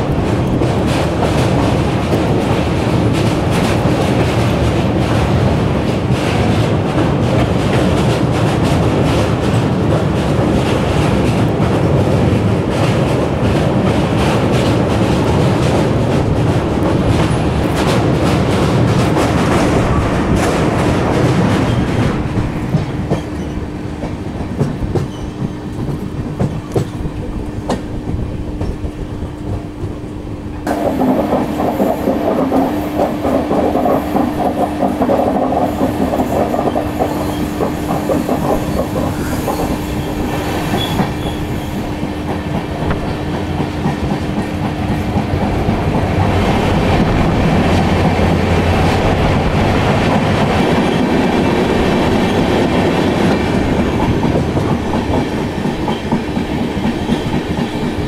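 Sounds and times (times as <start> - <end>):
train wheels clattering on bridge: 0.0 - 58.0.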